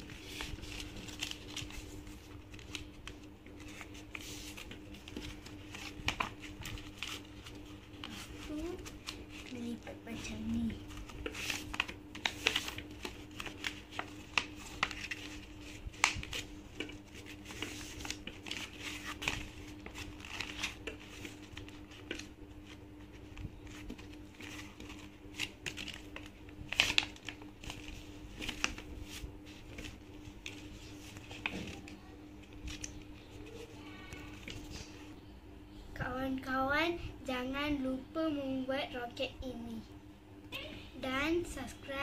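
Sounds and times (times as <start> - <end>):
paper rustling as it is folded: 0.0 - 35.1.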